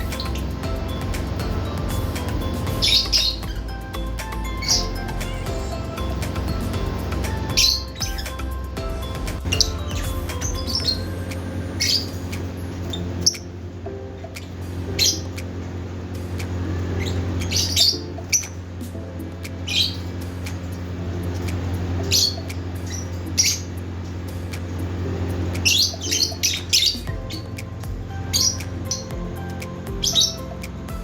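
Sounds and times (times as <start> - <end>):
lovebirds chirping and squawking: 0.0 - 31.0
steady low hum: 0.0 - 31.0.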